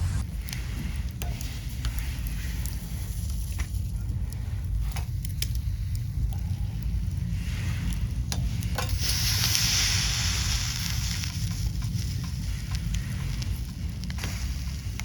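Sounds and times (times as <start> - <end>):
campfire crackling and popping: 0.0 - 15.0
food sizzling over fire: 0.0 - 15.0.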